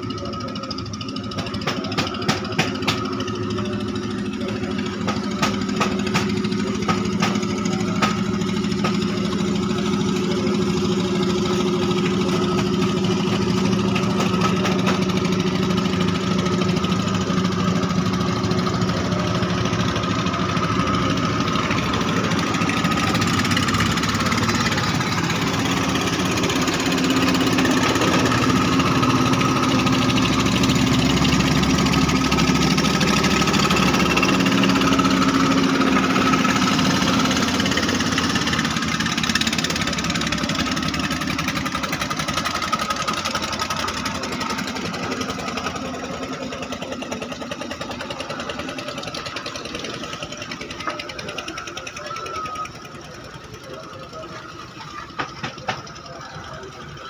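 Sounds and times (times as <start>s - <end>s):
boat engines running: 0.0s - 57.0s.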